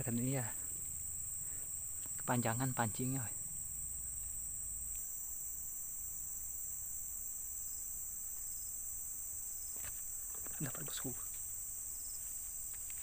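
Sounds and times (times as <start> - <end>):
insects shrilling: 0.0 - 13.0.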